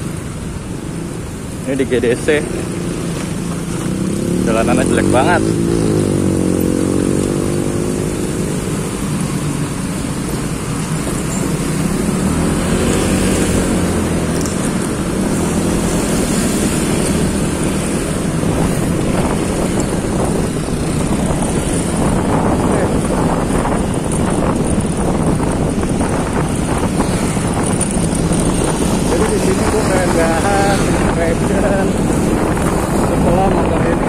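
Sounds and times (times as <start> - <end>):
rush of riding noise: 0.0 - 34.0
scooter engine running: 2.7 - 34.0.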